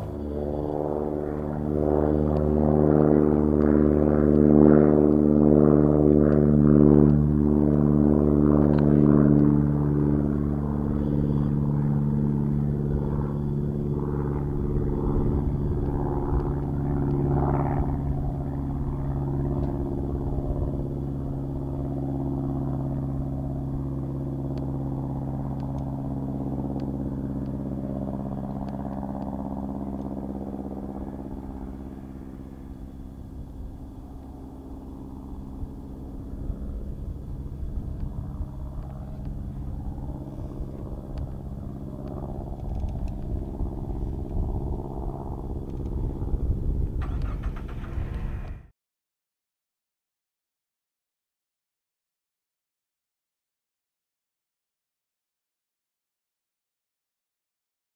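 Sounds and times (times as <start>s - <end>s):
propeller plane engine flying past: 0.0s - 48.7s.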